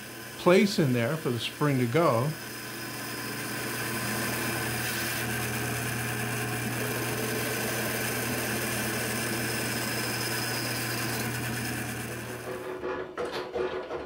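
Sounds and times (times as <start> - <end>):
bandsaw cutting wood: 0.0 - 12.8.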